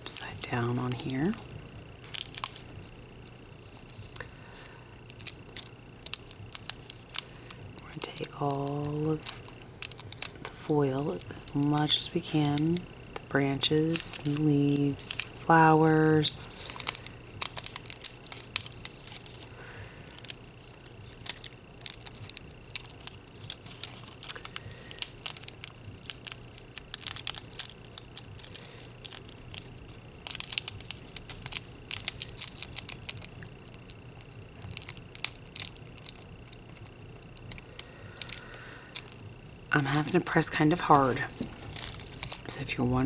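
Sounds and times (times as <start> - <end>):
foil crinkling and scratching: 0.0 - 43.0.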